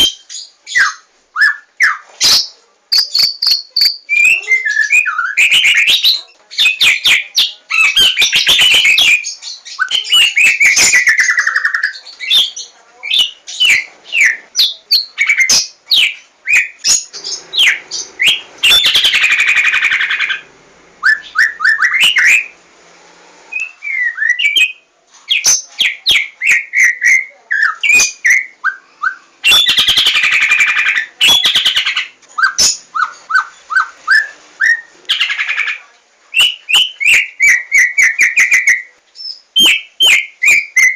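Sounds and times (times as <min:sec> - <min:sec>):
bird singing whistled song: 0:00.0 - 0:20.2, 0:21.0 - 0:22.6, 0:23.5 - 0:35.3, 0:36.3 - 0:40.9.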